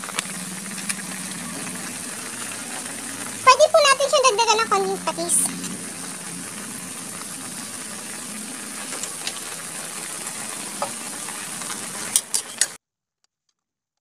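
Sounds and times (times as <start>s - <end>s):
food sizzling in a wok: 0.0s - 12.8s.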